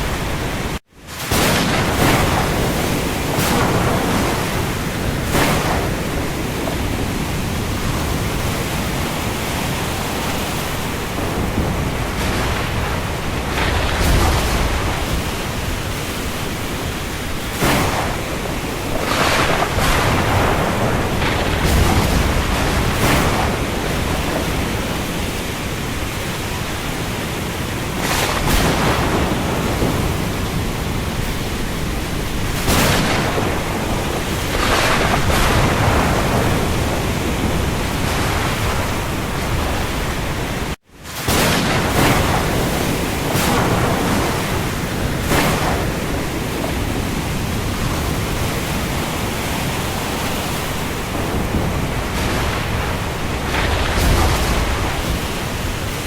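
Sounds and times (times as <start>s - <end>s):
heavy rain over sea: 0.0s - 56.0s
sea wash: 0.0s - 56.0s.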